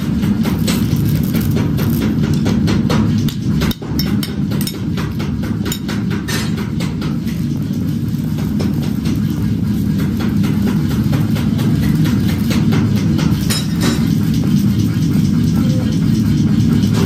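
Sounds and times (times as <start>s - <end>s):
steady low hum: 0.0s - 17.0s
welding arc crackling: 0.0s - 17.0s.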